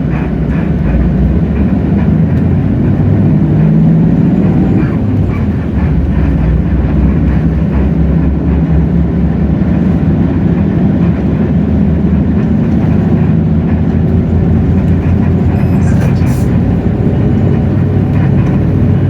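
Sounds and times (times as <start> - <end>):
bus body rattle: 0.0 - 19.0
bus diesel engine running: 0.0 - 19.0
road noise: 0.0 - 19.0.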